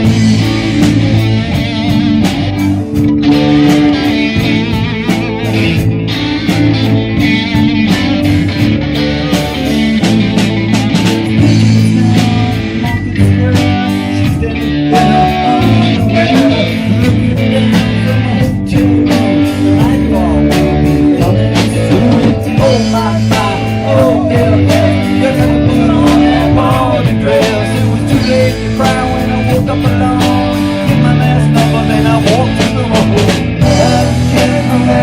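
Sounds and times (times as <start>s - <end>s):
bass: 0.0s - 35.0s
electric guitar: 0.0s - 35.0s
steady drum beat: 0.0s - 35.0s.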